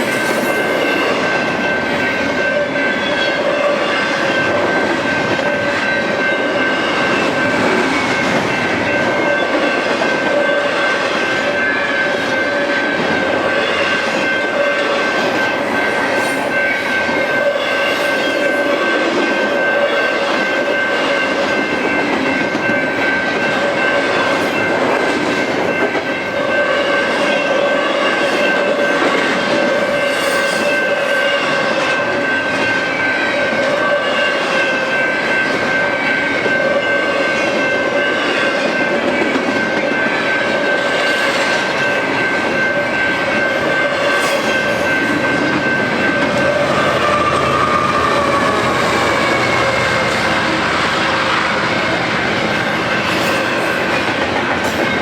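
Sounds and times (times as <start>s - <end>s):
high ringing tone: 0.0s - 24.8s, 29.7s - 55.0s
freight train wheels on rail: 0.0s - 55.0s.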